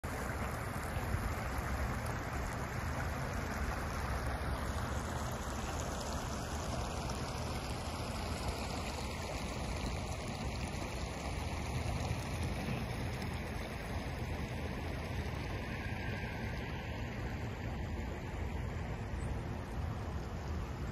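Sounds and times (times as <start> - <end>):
floodwater rushing: 0.0 - 20.9.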